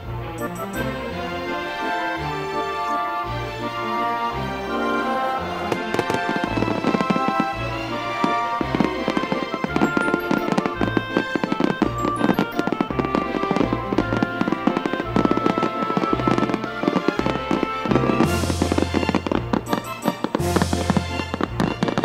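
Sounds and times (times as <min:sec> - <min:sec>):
music playing: 0:00.0 - 0:22.0
fireworks bangs and crackles: 0:03.9 - 0:22.0.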